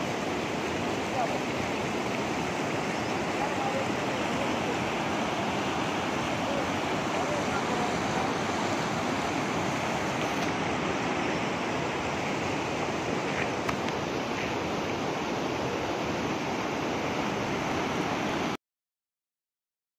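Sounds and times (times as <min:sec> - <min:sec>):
floodwater rushing: 0:00.0 - 0:18.6.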